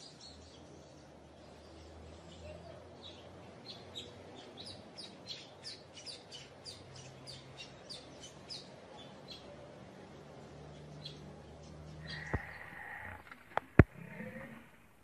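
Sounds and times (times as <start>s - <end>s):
bird chirping: 0.0s - 9.6s, 10.7s - 14.6s.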